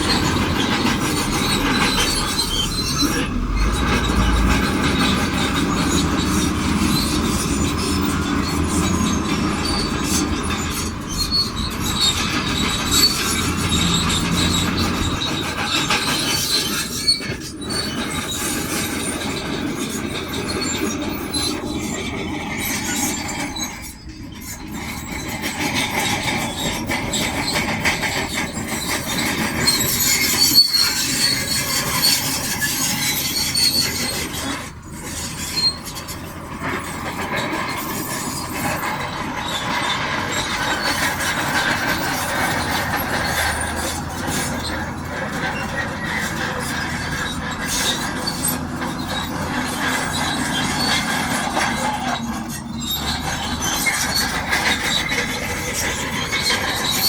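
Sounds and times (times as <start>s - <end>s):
bulldozer engine running: 0.0s - 57.0s
steel tracks squealing and clanking: 0.0s - 57.0s.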